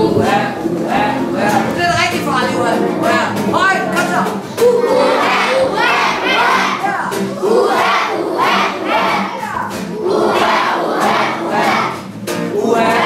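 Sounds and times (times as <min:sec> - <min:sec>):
voices shouting and calling out: 0:01.4 - 0:12.0.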